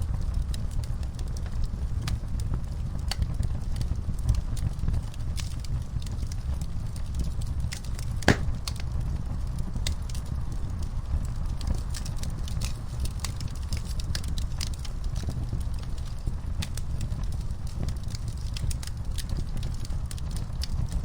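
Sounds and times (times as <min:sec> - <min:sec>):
wood fire crackling in fireplace: 0:00.2 - 0:21.0.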